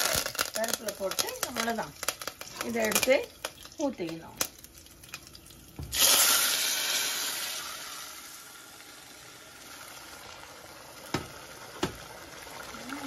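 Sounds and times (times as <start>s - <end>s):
oil sizzling in a saucepan: 0.0s - 13.0s.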